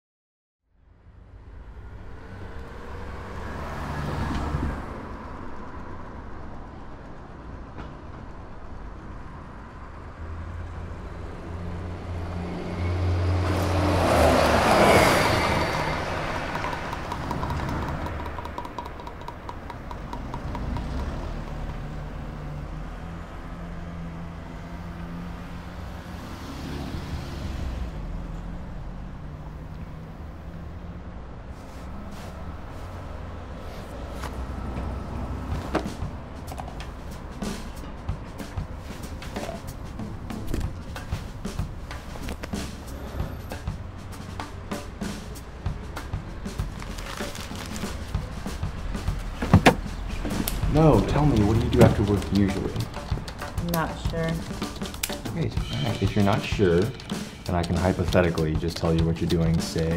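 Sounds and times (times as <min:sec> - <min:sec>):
low traffic rumble: 0:00.7 - 0:59.9
vehicles passing by: 0:00.8 - 0:59.9.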